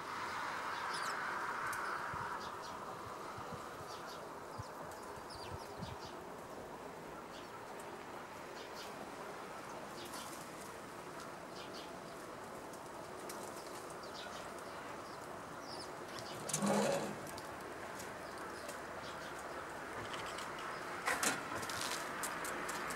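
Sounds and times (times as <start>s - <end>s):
low background noise: 0.0s - 22.9s
sparrows chirping: 0.2s - 21.0s.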